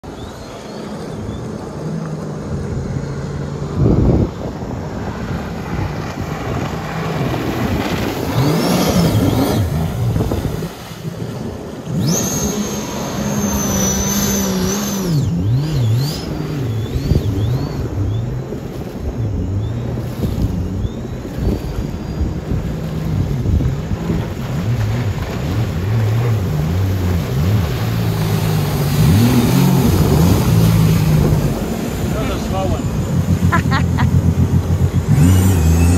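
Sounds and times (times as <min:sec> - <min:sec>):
powerboat engine revving: 0:00.1 - 0:35.9.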